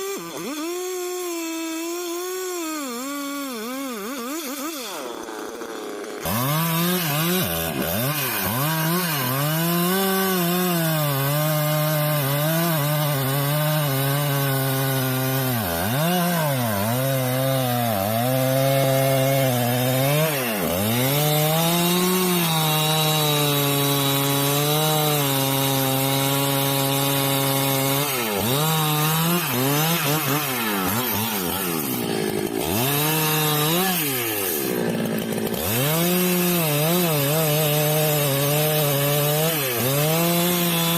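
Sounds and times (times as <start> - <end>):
chainsaw engine: 0.0 - 40.9.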